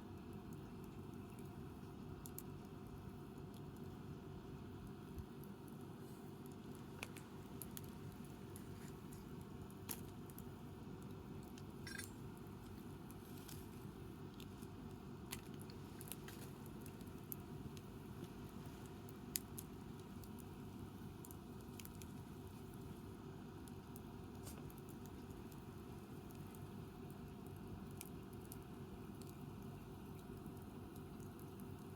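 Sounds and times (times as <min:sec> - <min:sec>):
campfire crackling and popping: 0:00.3 - 0:05.8, 0:06.4 - 0:31.9.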